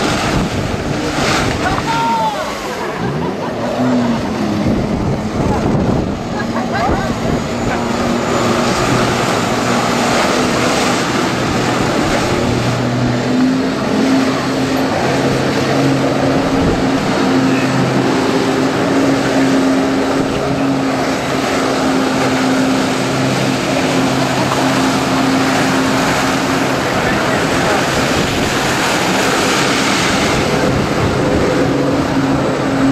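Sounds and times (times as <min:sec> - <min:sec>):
wind noise: 0:00.0 - 0:02.0, 0:04.2 - 0:32.9
motorboat engine humming: 0:00.0 - 0:32.9
water wash: 0:00.0 - 0:32.9.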